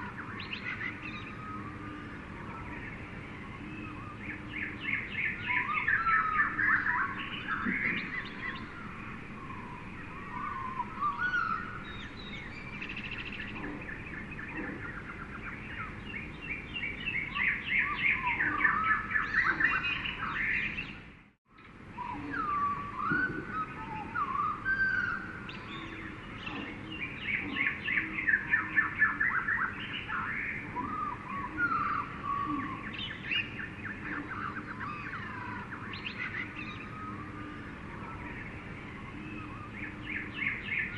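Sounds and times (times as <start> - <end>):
birds chirping and trilling: 0.0 - 40.9
steady background hiss: 0.0 - 40.9.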